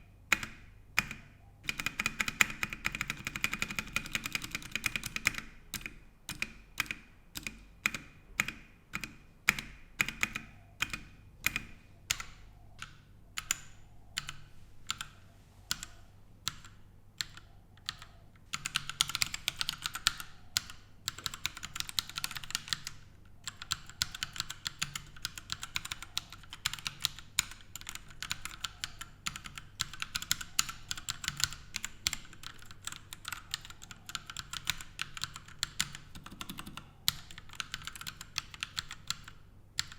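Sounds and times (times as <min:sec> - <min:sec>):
mechanical keyboard typing: 0:00.3 - 0:39.9.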